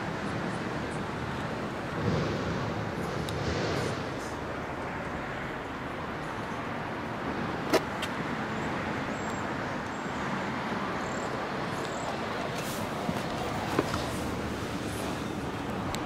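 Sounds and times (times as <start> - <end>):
outdoor traffic noise: 0.0 - 16.0.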